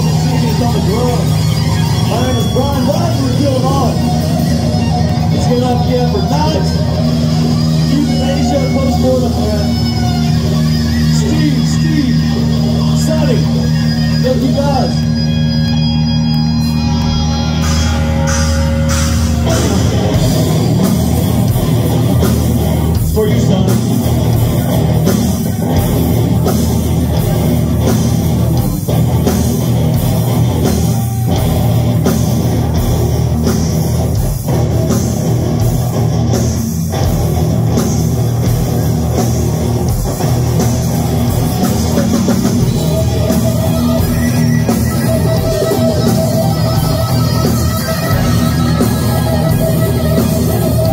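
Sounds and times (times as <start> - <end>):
heavy metal band playing: 0.0 - 50.9.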